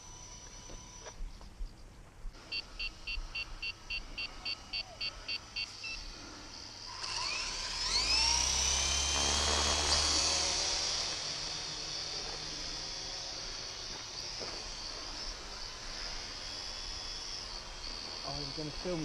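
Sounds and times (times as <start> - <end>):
electric motor whine spooling up: 0.0 - 1.3, 2.4 - 19.0.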